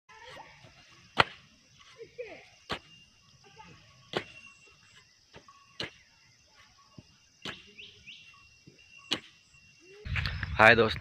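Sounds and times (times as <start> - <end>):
insects chirping faintly: 0.1 - 11.0.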